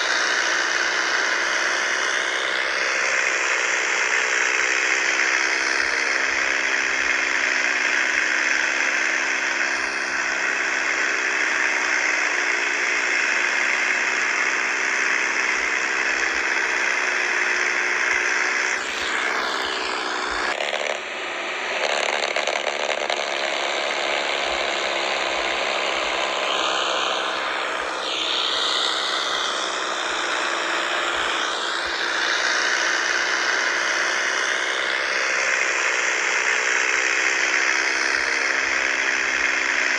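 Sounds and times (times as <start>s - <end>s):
toy motors and gears whirring: 0.0s - 39.9s.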